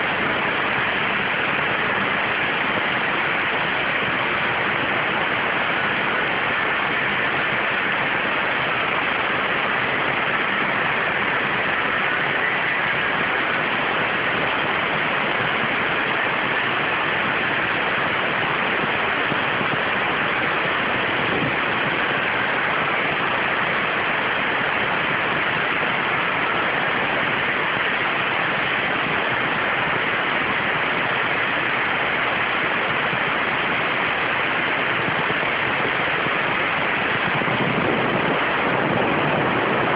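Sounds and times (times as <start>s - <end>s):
water jet cutter hissing: 0.0s - 39.9s.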